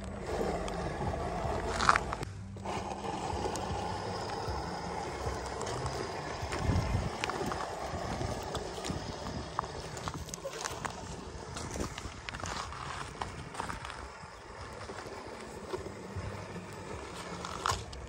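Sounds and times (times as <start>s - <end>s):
stones crunching under tyres: 0.0s - 18.0s
toy car electric motor whirring: 0.0s - 18.0s.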